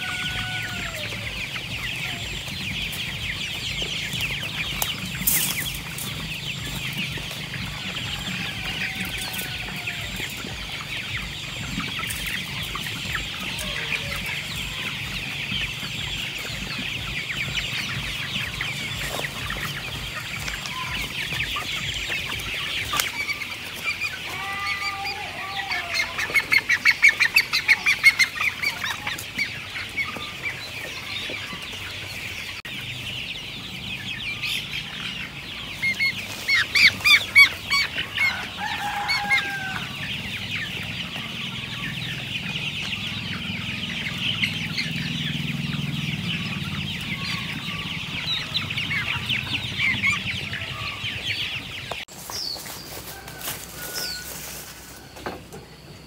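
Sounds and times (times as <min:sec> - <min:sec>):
chicks peeping and clucking: 0:00.0 - 0:56.0.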